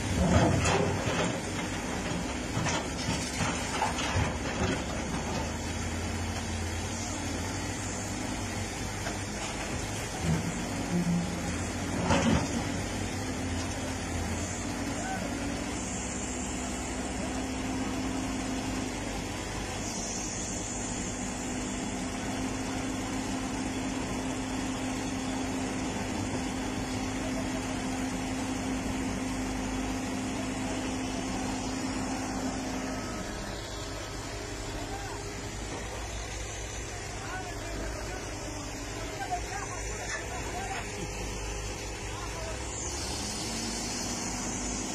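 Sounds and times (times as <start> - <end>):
excavator diesel engines running: 0.0 - 44.9.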